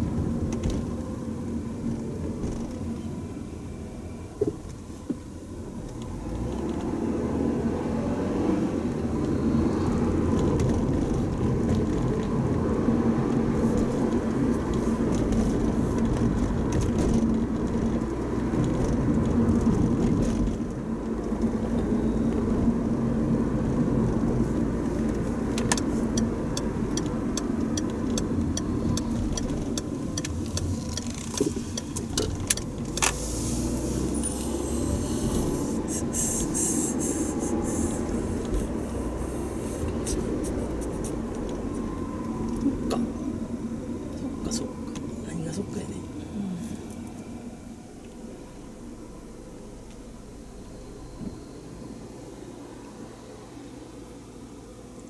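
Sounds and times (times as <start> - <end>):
car cabin road and engine noise: 0.0 - 55.0.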